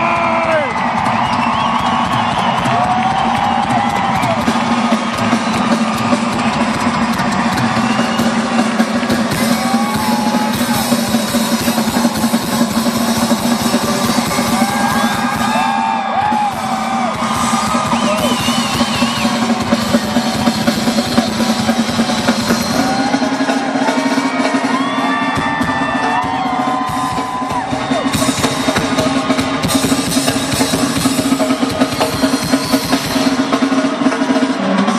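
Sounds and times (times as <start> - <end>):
drum kit: 0.0 - 34.9
live rock music: 0.0 - 34.9.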